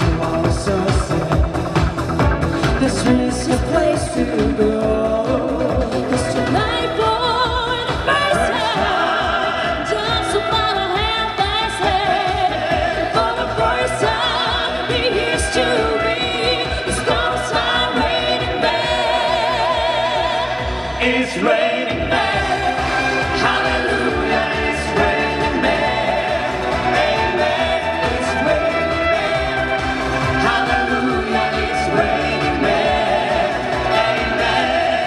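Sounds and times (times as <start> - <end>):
singers with vibrato: 0.0 - 35.0.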